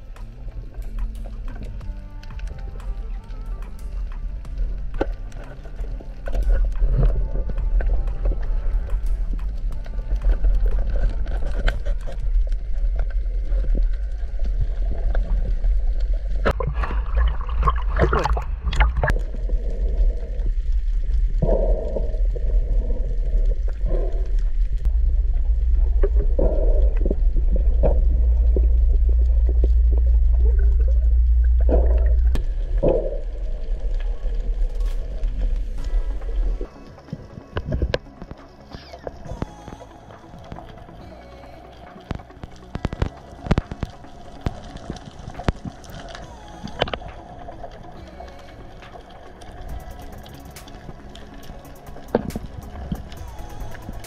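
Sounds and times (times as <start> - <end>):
underwater rumble of moving water: 0.0 - 54.0
water gurgling: 0.0 - 54.0.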